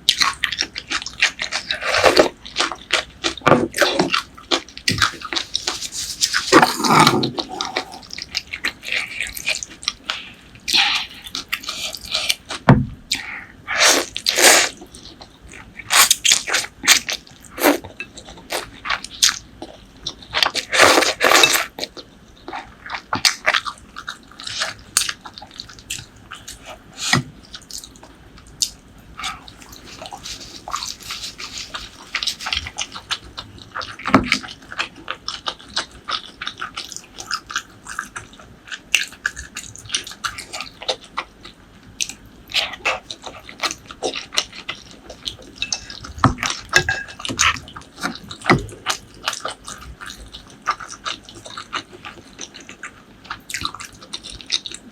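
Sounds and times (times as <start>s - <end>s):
person chewing with wet smacks: 0.0s - 54.9s.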